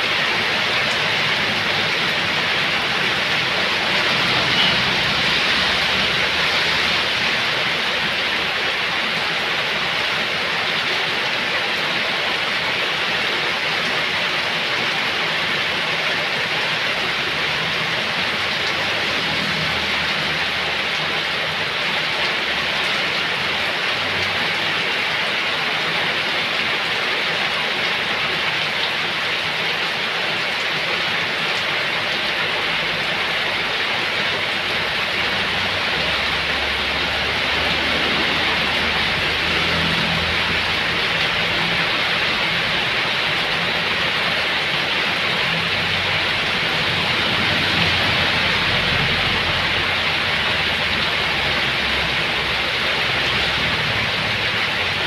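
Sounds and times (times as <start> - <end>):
heavy rain splashing on ground: 0.0 - 55.0.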